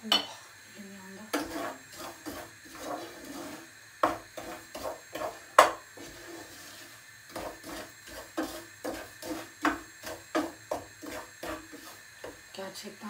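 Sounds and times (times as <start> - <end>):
wooden spatula scraping a pot: 1.2 - 12.5.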